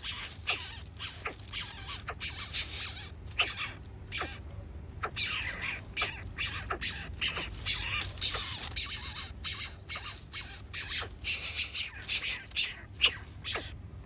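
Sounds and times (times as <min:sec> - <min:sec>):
nestling birds begging calls: 0:00.0 - 0:13.8.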